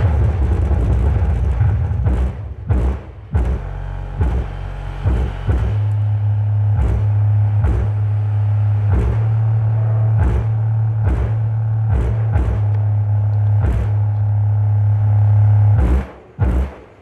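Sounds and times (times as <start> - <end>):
low steady test tone: 0.0 - 16.7.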